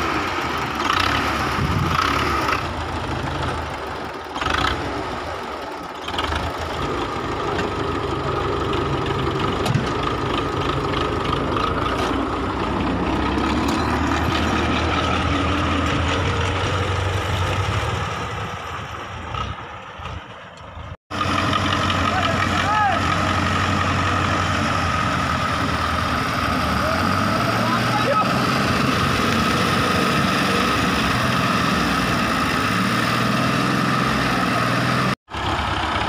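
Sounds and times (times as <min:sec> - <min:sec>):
diesel tractor engines running: 0:00.0 - 0:36.0.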